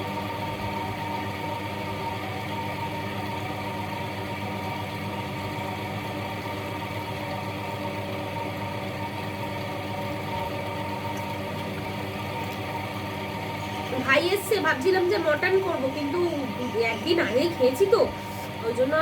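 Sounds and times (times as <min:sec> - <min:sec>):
steady motor hum: 0:00.0 - 0:19.0.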